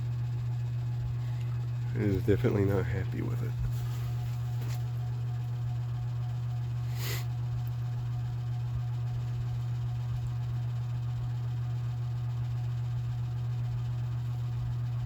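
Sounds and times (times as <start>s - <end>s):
box fan motor humming: 0.0s - 15.0s.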